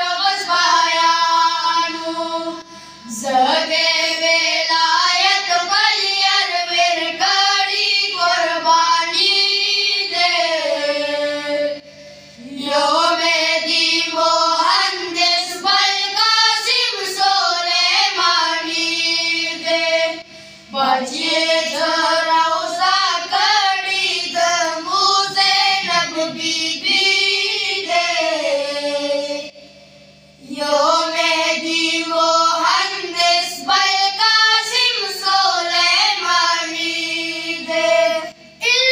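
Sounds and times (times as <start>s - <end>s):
boys singing in unison: 0.0s - 11.8s, 12.4s - 29.5s, 30.5s - 38.9s.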